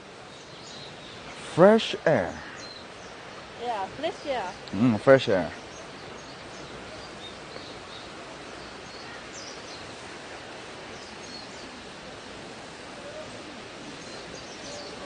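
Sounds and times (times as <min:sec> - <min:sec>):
small birds chirping: 0:00.0 - 0:15.0
steady rushing background noise: 0:00.0 - 0:15.0.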